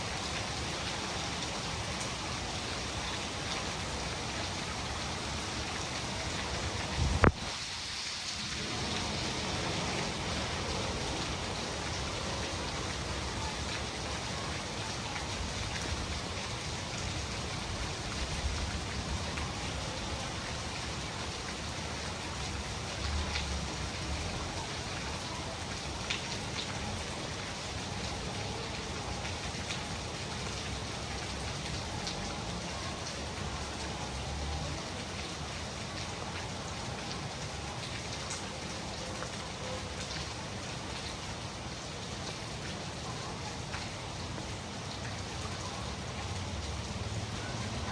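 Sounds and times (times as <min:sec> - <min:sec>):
rain on hard surfaces: 0:00.0 - 0:47.9.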